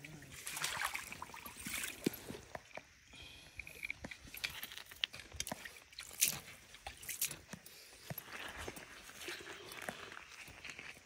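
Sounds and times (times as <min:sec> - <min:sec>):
water trickling over rock: 0:00.0 - 0:03.0, 0:03.6 - 0:11.0.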